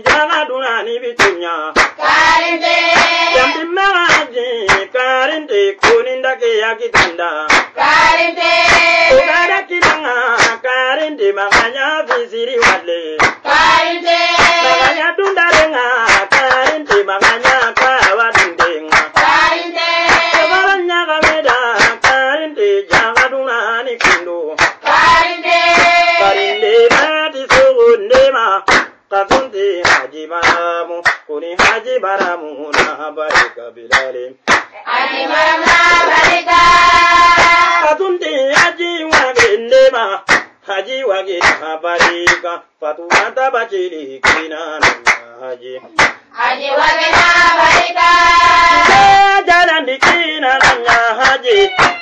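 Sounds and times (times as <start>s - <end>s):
hand clapping: 0.0s - 0.4s, 1.2s - 4.9s, 5.8s - 6.1s, 6.9s - 23.4s, 24.0s - 36.6s, 37.2s - 37.7s, 38.5s - 40.6s, 41.4s - 43.4s, 44.2s - 46.3s, 47.0s - 52.0s.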